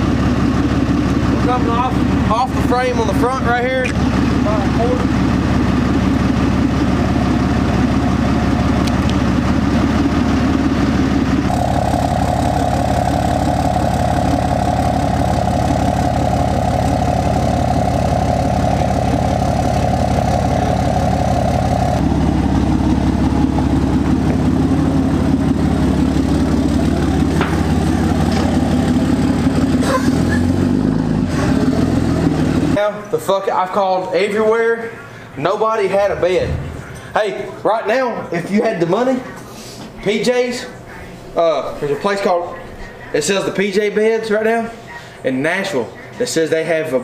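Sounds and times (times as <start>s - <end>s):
pickup engine idling: 0.0s - 37.6s.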